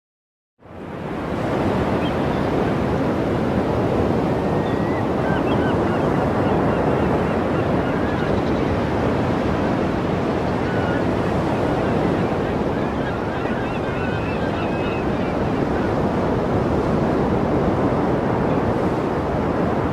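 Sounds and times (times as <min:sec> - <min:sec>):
strong wind on microphone: 0:00.7 - 0:19.9.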